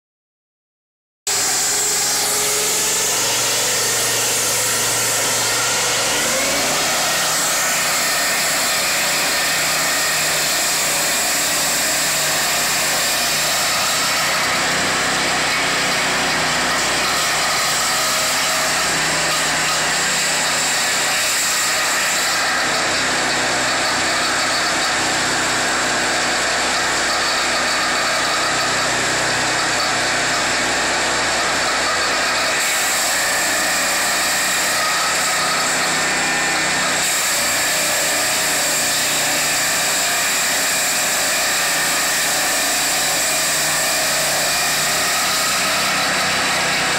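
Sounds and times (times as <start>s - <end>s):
circular saw cutting timber: 1.3s - 46.9s
sawmill engine running: 1.3s - 46.9s.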